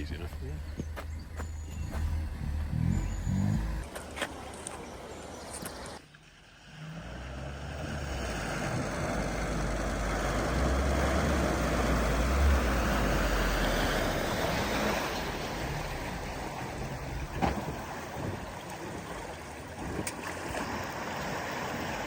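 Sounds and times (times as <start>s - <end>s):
vehicle engine straining: 0.0s - 18.6s.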